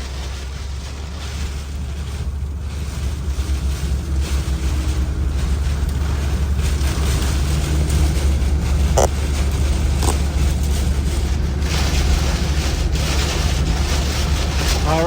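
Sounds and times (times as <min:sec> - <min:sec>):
vehicle rumble driving: 0:00.0 - 0:15.0.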